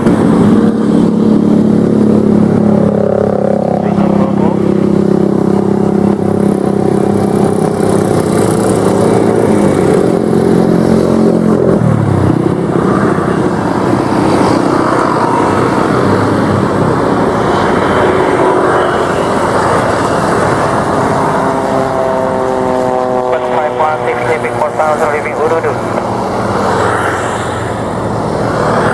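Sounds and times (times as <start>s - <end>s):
propeller plane droning past: 0.0s - 28.9s
rushing noise: 0.0s - 28.9s.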